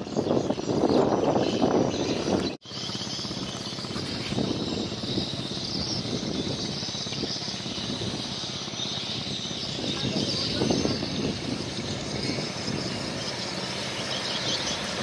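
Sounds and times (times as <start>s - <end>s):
continuous high chirring: 0.0s - 15.0s.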